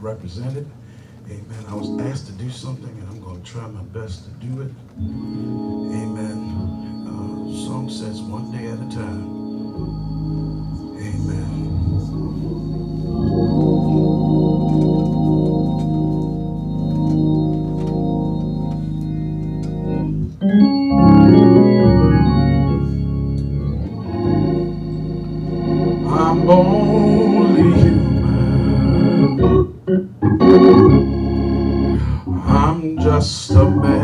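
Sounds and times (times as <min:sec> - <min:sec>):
electronic organ playing: 0:01.6 - 0:03.2, 0:04.9 - 0:34.0.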